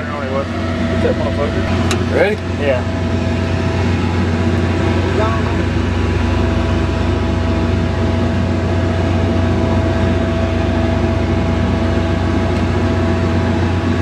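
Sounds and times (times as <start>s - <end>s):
low mechanical hum with whine: 0.0s - 14.0s.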